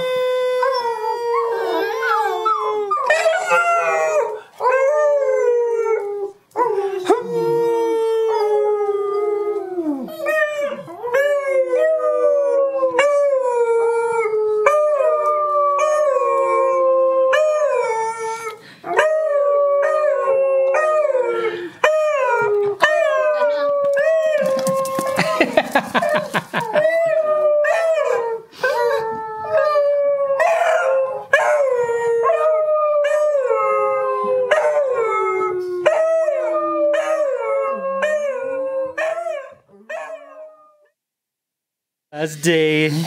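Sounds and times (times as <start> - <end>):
dogs howling: 0.0 - 40.9.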